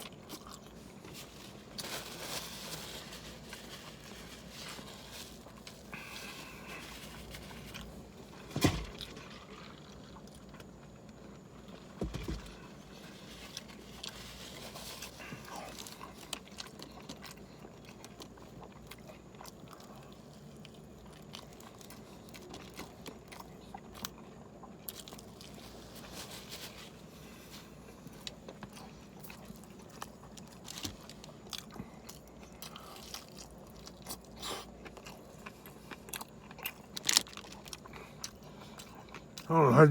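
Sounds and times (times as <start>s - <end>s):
person chewing food: 0.0s - 2.0s, 3.2s - 39.5s.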